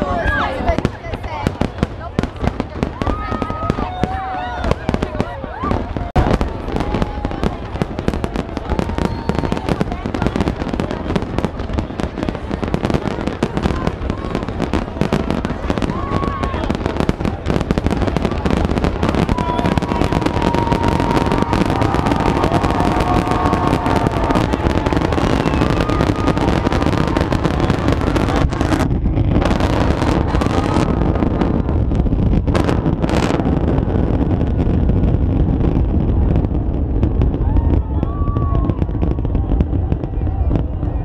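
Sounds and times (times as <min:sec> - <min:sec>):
fireworks booming and crackling: 0:00.0 - 0:41.0
whistling fireworks: 0:00.0 - 0:41.0.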